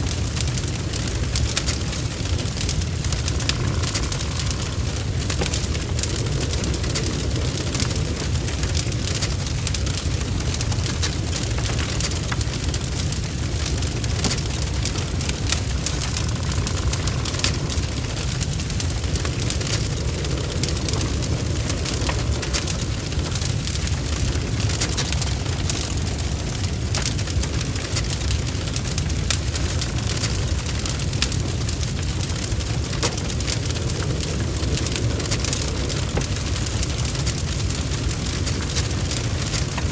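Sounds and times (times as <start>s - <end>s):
fire crackling and spitting: 0.0s - 39.9s
low fire rumble: 0.0s - 39.9s.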